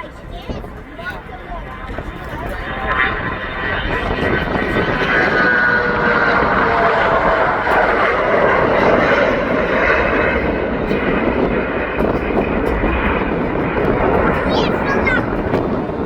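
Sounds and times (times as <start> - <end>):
airliner engines passing: 0.0 - 16.0.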